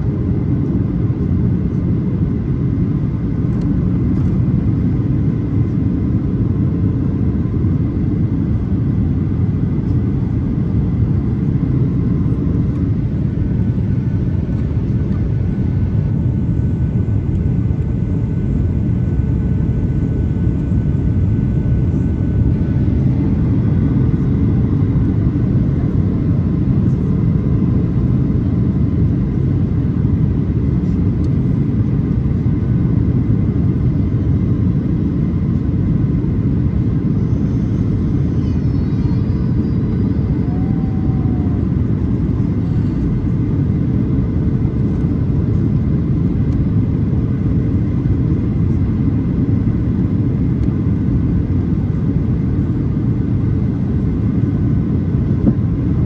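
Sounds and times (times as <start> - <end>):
airplane engine rumble in flight: 0.0 - 56.0.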